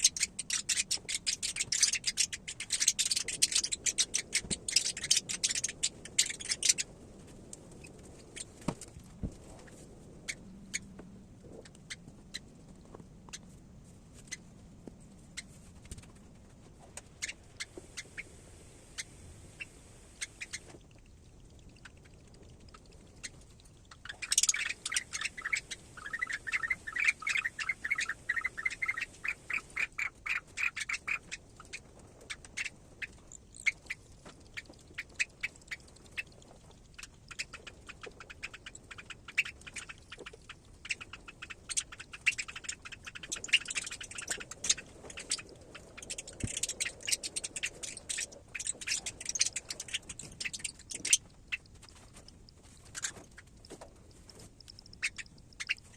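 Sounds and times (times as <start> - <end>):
parrot chick peeping: 0.0 - 55.9.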